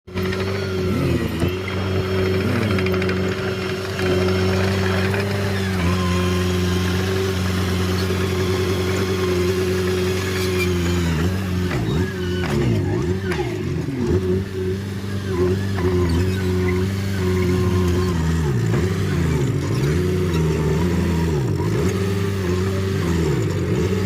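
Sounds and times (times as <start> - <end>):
diesel engine running: 0.1 - 24.0.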